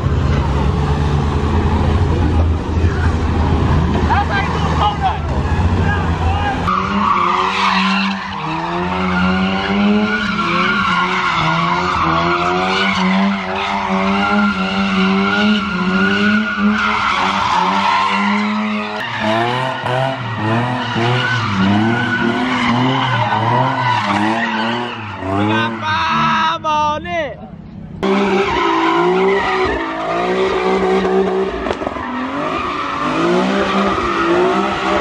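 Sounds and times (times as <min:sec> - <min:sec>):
car engine revving: 0:00.0 - 0:26.4, 0:27.4 - 0:35.0.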